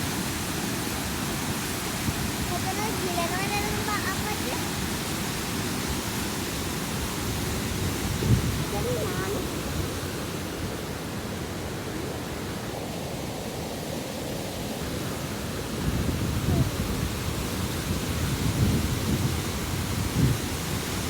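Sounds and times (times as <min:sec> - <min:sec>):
water rushing over spillway: 0:00.0 - 0:21.0.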